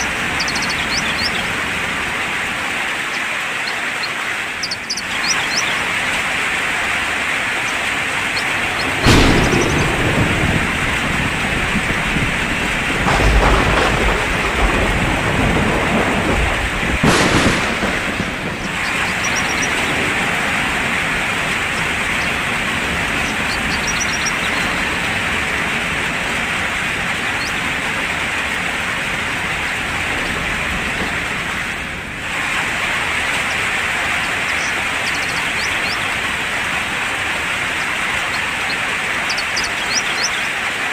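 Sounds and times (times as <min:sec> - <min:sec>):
thunder: 0:00.0 - 0:03.2, 0:04.6 - 0:40.3
steady rain: 0:00.0 - 0:40.9.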